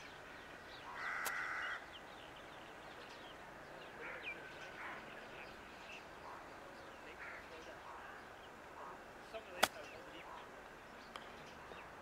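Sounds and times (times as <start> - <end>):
harsh bird calls: 0.0 - 12.0
outdoor background hiss: 0.0 - 12.0.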